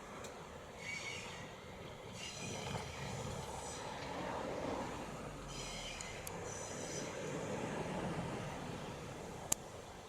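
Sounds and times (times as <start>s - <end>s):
electric train rumbling slowly: 0.0s - 10.0s.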